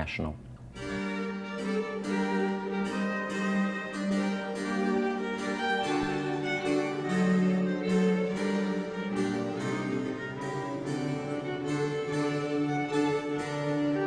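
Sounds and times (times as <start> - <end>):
bowed strings holding long notes: 0.0 - 14.0
plucked or keyboard accompaniment: 0.0 - 14.0.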